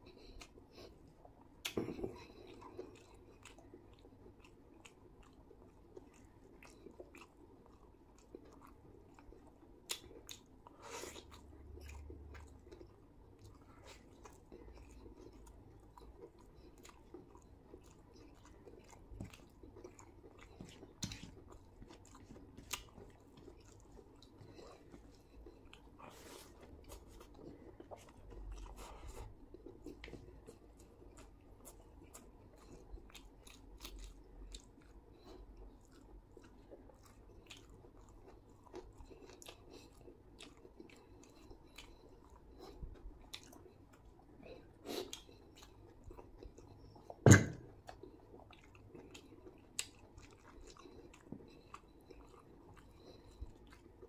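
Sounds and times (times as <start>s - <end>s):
man chewing with wet mouth sounds: 0.0s - 54.0s.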